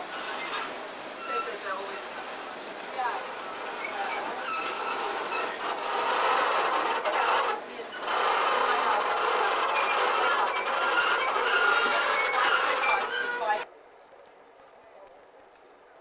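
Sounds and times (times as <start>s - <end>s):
train wheels clattering: 0.0s - 13.6s
wheels squeaking on rails: 0.0s - 13.7s.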